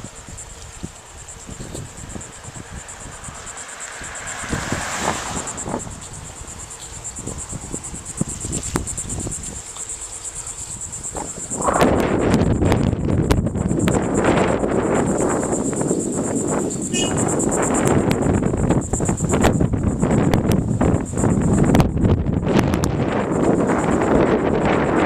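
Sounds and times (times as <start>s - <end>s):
insects trilling: 0.0s - 25.0s
wind rumbling on microphone: 0.0s - 25.0s.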